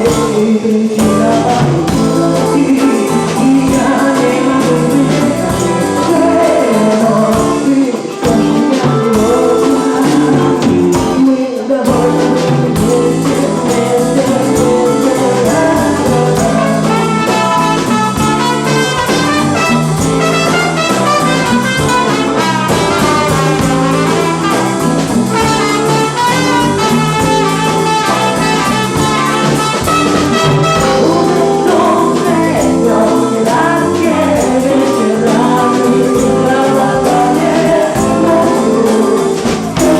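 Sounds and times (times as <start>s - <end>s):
brass instruments: 0.0s - 39.9s
live band playing: 0.0s - 39.9s
person singing: 0.0s - 39.9s.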